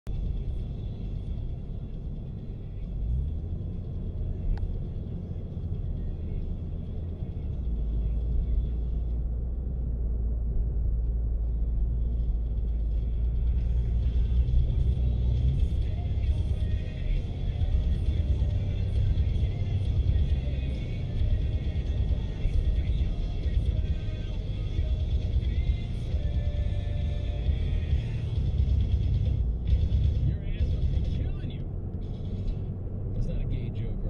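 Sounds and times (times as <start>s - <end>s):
car cabin road and engine rumble: 0.0s - 34.0s.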